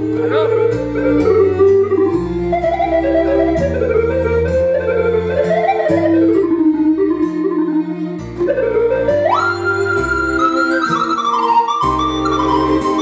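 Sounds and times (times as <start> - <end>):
synthesizer keyboard music: 0.0 - 13.0.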